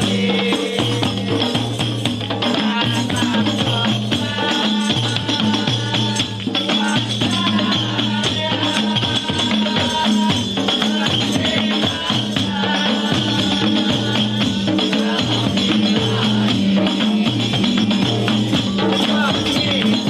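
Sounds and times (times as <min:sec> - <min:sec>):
fast dense percussion: 0:00.0 - 0:20.0.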